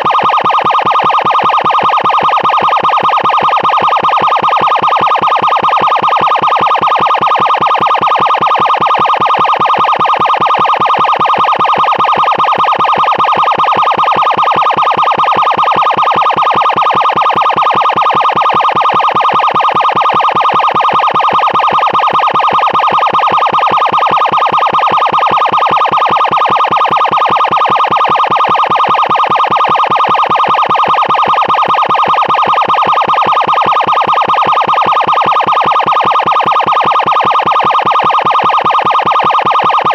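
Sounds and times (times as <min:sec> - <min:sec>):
steady pulsing emergency siren: 0:00.0 - 0:39.9.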